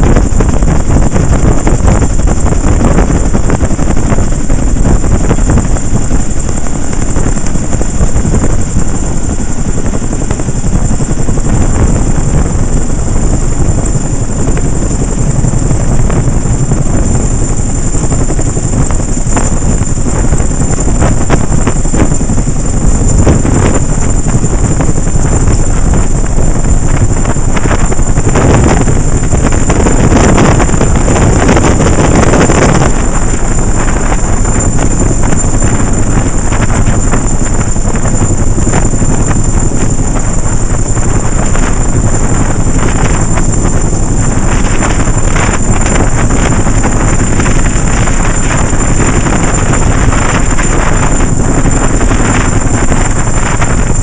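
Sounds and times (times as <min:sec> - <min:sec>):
helicopter rotor and engine noise: 0:00.0 - 0:54.0
high engine whine: 0:00.0 - 0:54.0
wind buffeting microphone: 0:00.0 - 0:54.0.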